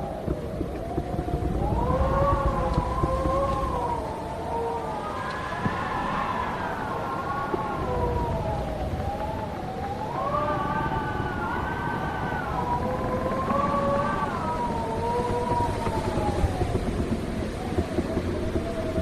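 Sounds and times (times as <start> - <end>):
low rush of wind: 0.0 - 19.0
wind howling and whistling: 0.0 - 19.0.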